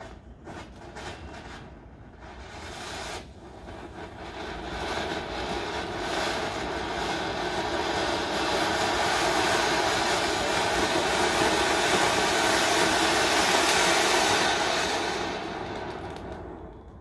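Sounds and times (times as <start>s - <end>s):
fountain firework hissing: 0.3s - 16.7s.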